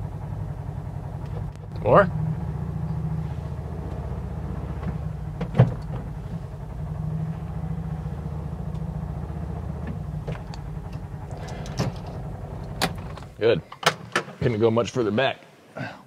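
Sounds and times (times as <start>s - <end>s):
utility vehicle engine idling: 0.0s - 13.6s.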